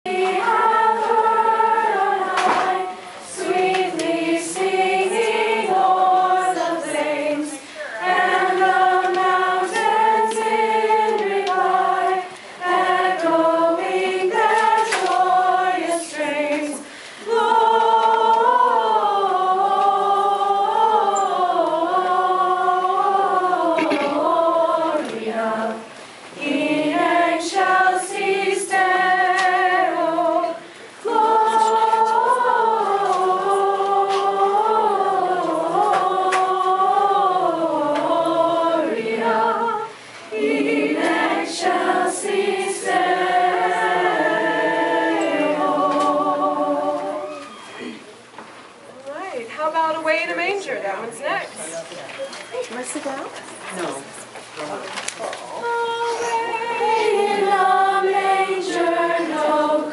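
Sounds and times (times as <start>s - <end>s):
girls' choir singing a carol: 0.0s - 48.0s, 55.6s - 59.9s.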